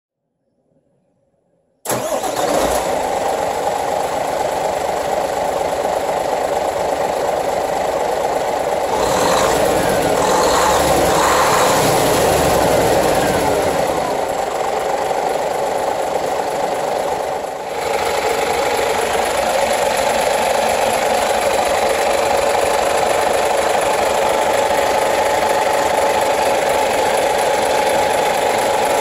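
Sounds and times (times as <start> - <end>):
truck engine running: 1.9 - 29.0.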